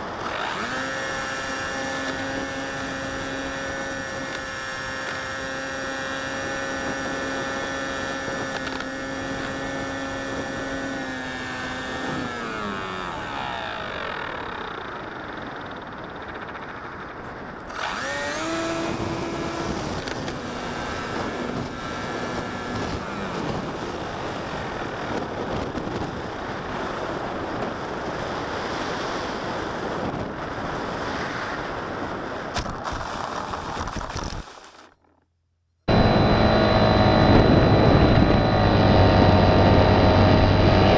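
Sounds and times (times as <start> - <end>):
model plane motor whine: 0.0 - 31.6, 35.9 - 40.9
wind rush on microphone: 0.0 - 34.5, 35.9 - 40.9.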